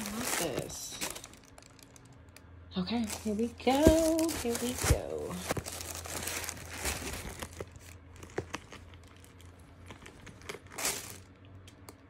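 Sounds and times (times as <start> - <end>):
paper crinkling and rustling: 0.0 - 2.1, 3.0 - 11.3.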